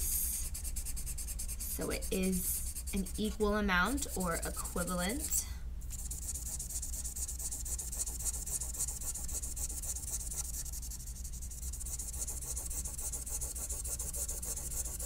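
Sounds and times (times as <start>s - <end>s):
marker rubbing on paper: 0.0s - 15.0s
steady low hum: 0.0s - 15.0s.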